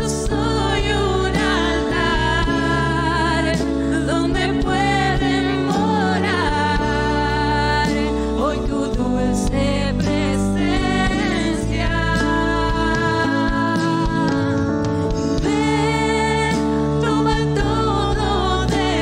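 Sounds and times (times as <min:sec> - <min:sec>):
person singing with vibrato: 0:00.0 - 0:19.0
steady bass: 0:00.0 - 0:19.0
sustained instrumental chords: 0:00.0 - 0:19.0.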